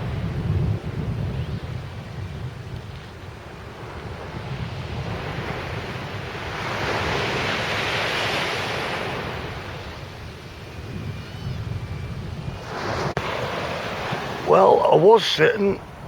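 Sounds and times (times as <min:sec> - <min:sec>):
wind rumbling on microphone: 0:00.0 - 0:14.5, 0:15.8 - 0:16.0
sea surf breaking on beach: 0:00.0 - 0:16.0.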